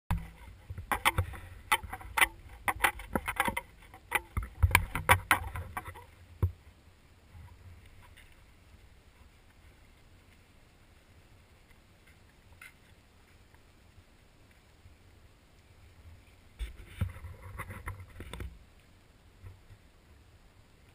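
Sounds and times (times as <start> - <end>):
faint steady hiss: 0.1 - 20.9.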